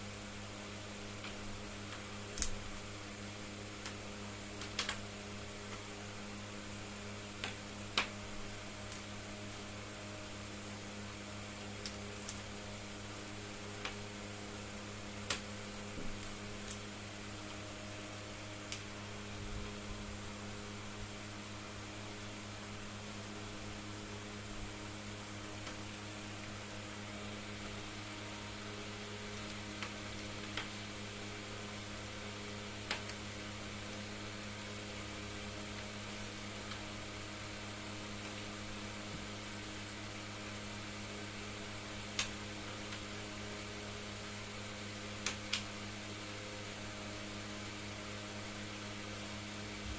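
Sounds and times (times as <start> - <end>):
electrical mains hum: 0.0 - 49.9.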